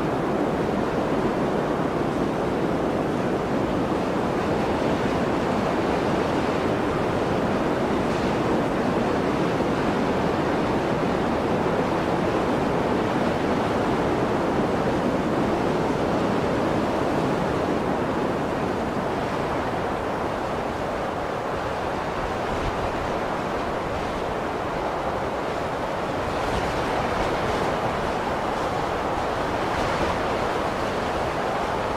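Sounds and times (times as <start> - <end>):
blizzard wind rushing: 0.0 - 31.9.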